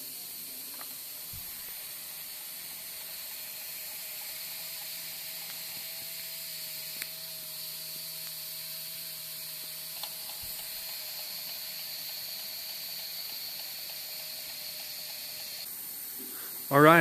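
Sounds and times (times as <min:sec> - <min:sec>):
compressed air hissing: 0:00.0 - 0:17.0
faint steady whine: 0:00.0 - 0:17.0.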